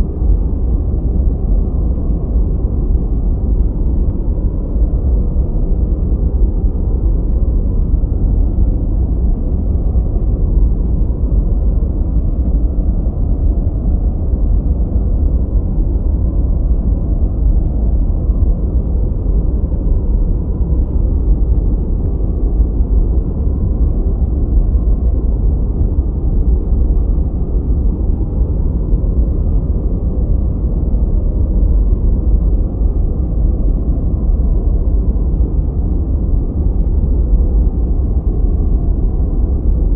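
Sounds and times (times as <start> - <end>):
deep rushing brown noise: 0.0 - 39.9.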